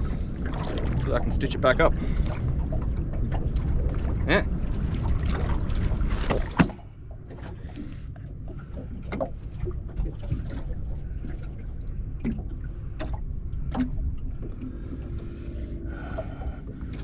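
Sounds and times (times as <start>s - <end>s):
knocks and clatters on boat: 0.0s - 17.0s
wind and water rumble: 0.0s - 17.0s.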